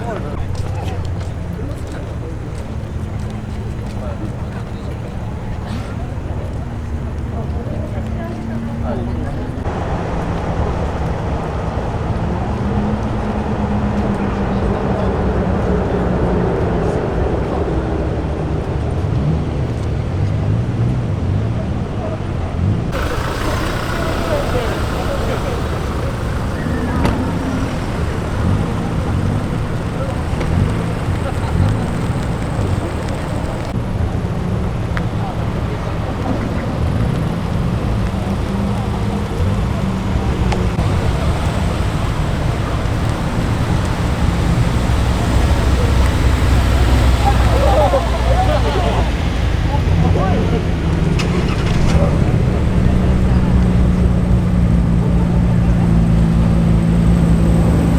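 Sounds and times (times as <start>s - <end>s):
people's voices: 0.0s - 20.5s, 21.2s - 57.9s
car engines running: 0.0s - 57.9s.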